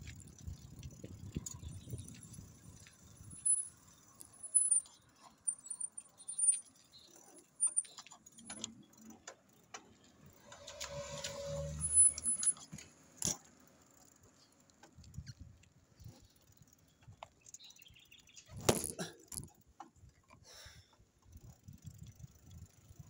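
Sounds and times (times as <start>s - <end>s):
bicycle rattling and clicking: 0.0s - 23.0s.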